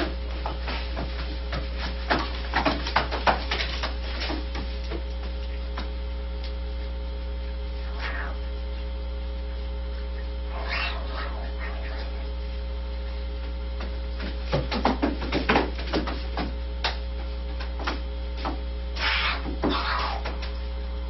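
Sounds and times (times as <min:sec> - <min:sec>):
birds scuffling on wooden floorboards: 0:00.0 - 0:07.0, 0:10.6 - 0:20.7
steady electrical hum: 0:00.0 - 0:21.0.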